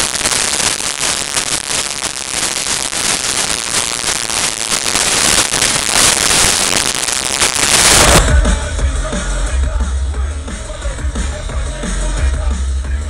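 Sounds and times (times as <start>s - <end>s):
microphone distortion crackling: 0.0s - 13.0s.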